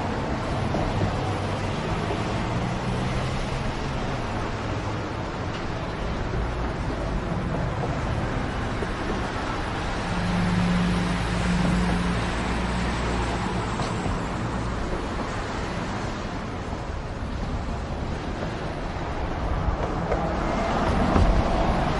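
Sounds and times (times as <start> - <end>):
city street traffic: 0.0 - 21.9.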